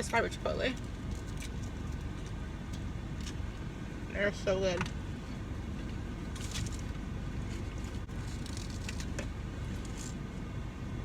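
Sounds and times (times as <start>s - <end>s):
air conditioning blowing: 0.0s - 11.0s.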